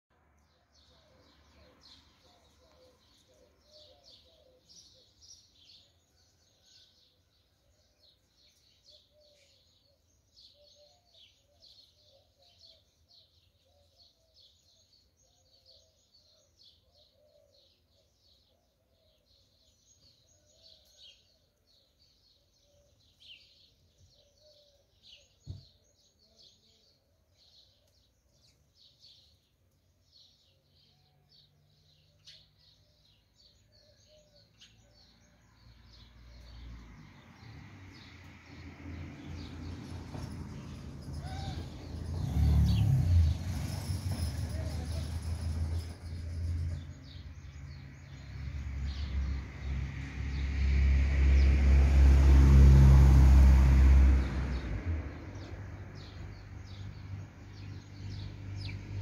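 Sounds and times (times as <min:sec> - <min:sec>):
faint birdsong chirps: 0:00.1 - 0:50.5.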